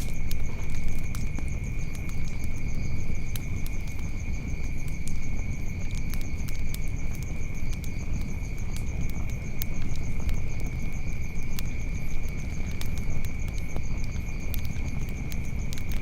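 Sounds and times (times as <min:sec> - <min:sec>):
insects droning: 0:00.0 - 0:16.0
wood fire crackling: 0:00.0 - 0:16.0.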